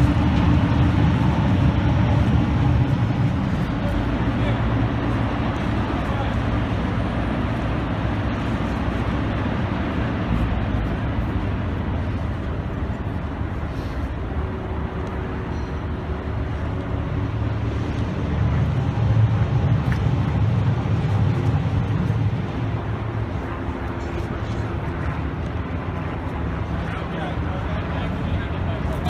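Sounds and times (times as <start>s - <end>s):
low engine rumble with hum: 0.0s - 29.0s.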